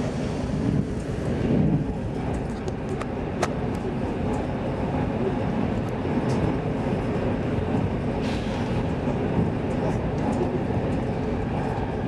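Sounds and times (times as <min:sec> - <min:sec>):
train carriage running noise: 0:00.0 - 0:12.0.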